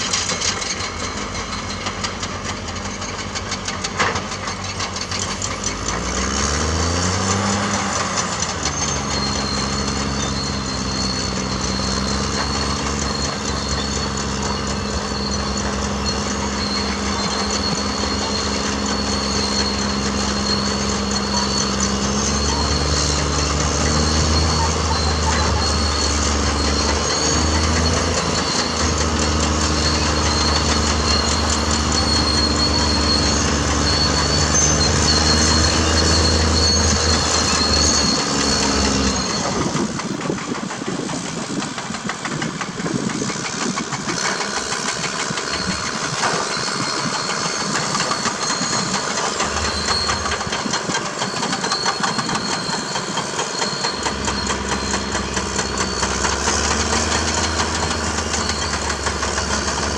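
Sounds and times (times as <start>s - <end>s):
bulldozer diesel engine droning: 0.0s - 59.9s
metal tracks rattling: 0.0s - 59.9s.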